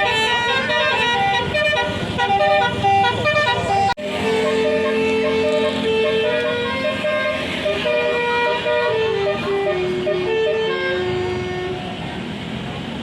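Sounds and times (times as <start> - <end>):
bus horn playing a tune: 0.0 - 12.2.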